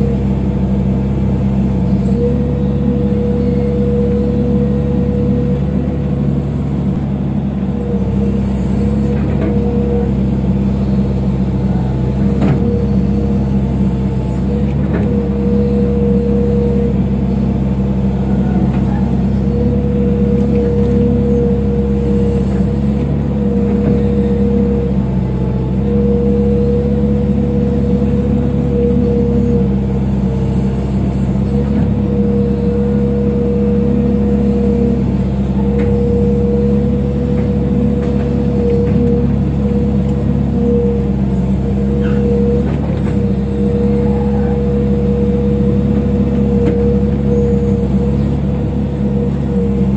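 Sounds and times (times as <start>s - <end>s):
excavator diesel engine humming: 0.0s - 49.9s.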